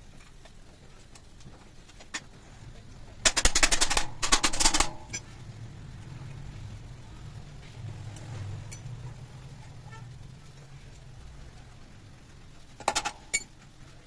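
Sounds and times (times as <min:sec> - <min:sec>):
rapid mechanical rattle: 0:00.0 - 0:14.0.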